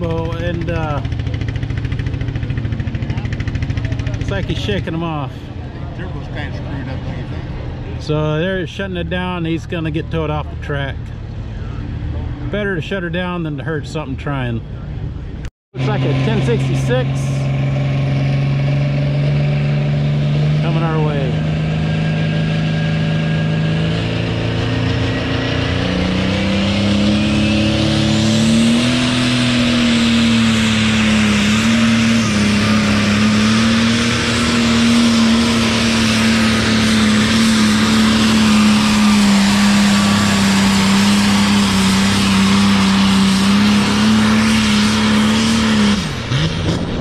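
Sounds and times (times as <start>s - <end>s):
tractor diesel engine at full throttle: 0.0s - 47.0s.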